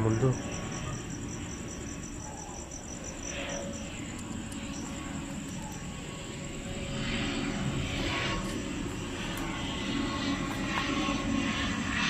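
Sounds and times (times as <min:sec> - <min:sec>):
airplane flying over: 0:00.0 - 0:12.0
faint cricket chirps: 0:00.0 - 0:12.0.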